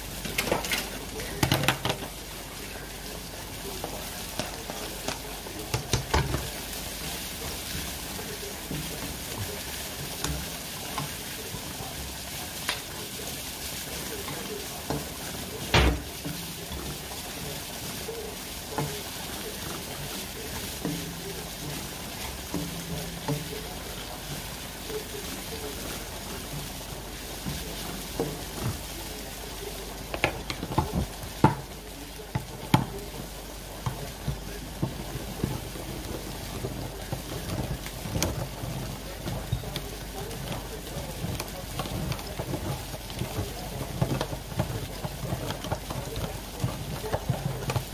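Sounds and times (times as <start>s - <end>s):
onions and meat sizzling in a wok: 0.0s - 47.9s.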